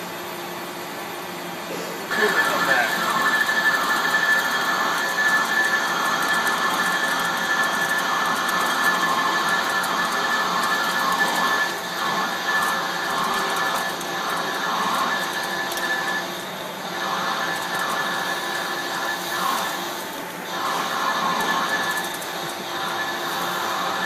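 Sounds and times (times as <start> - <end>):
metal lathe cutting steel: 2.1 - 24.0.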